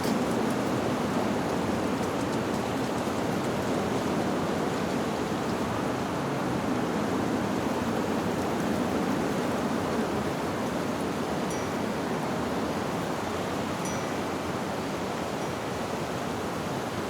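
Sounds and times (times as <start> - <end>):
wind rustling tree leaves: 0.0 - 17.0.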